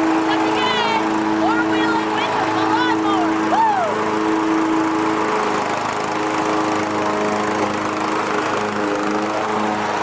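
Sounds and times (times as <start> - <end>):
riding mower engine running: 0.0 - 10.0.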